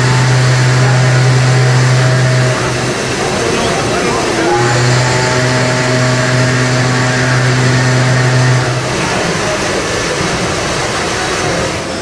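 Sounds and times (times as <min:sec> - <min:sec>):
steady low hum: 0:00.0 - 0:11.2
engine room machinery noise: 0:00.0 - 0:12.0.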